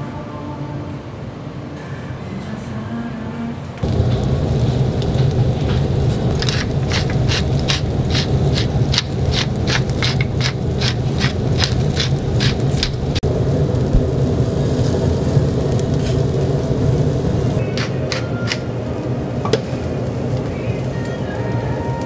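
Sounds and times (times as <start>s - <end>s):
low hum: 0.0s - 22.0s
crisp crackles: 3.8s - 22.0s
skewers sizzling on grill: 3.8s - 22.0s.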